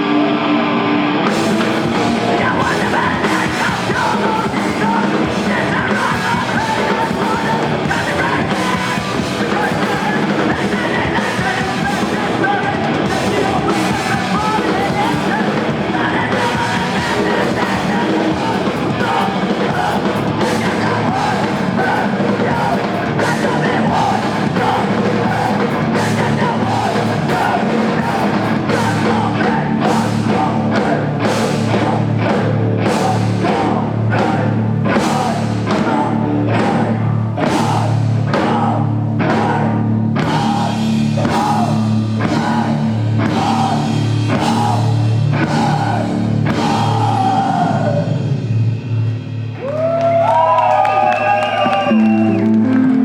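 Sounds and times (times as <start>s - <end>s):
live rock band playing: 0.0s - 50.2s, 51.2s - 53.0s.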